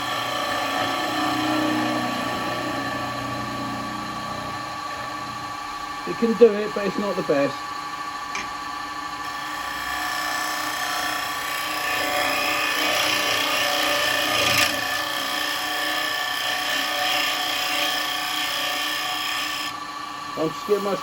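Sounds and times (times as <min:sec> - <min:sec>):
wood lathe whine: 0:00.0 - 0:21.0.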